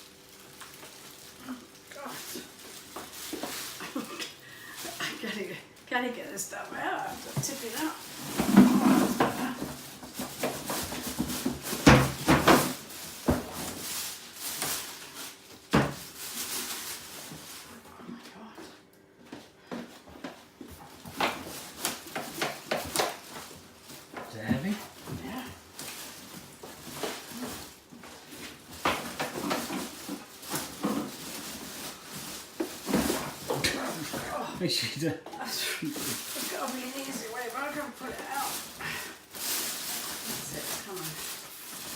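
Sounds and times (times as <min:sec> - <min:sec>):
packaging rustling: 0:00.0 - 0:17.9, 0:20.7 - 0:34.6, 0:35.7 - 0:41.9.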